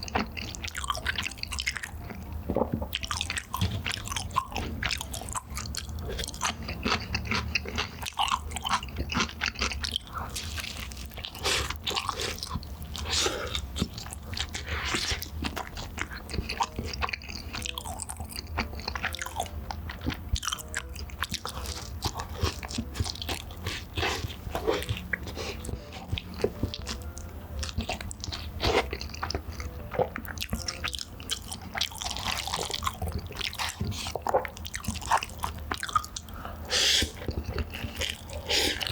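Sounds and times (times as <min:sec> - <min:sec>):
person chewing and biting pizza: 0:00.0 - 0:38.9.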